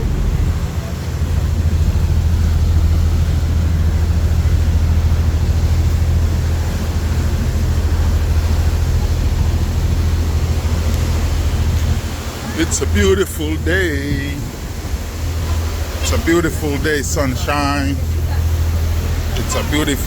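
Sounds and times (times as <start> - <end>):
ferry engines rumbling: 0.0 - 20.0.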